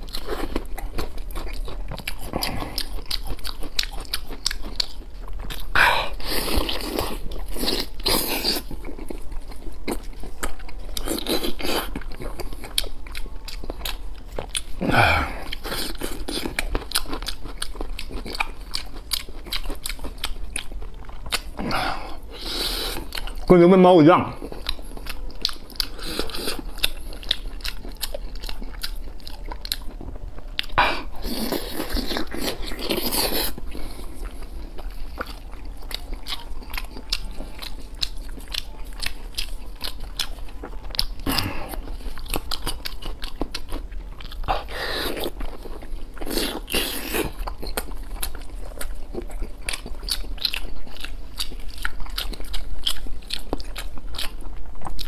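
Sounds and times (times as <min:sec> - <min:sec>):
wet chewing and lip-smacking: 0:00.0 - 0:23.5, 0:24.4 - 0:55.0.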